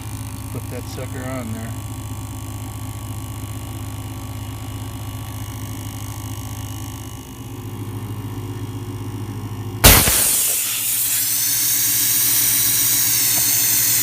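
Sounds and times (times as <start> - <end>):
air compressor humming: 0.0 - 14.0
truck engine idling: 0.0 - 14.0.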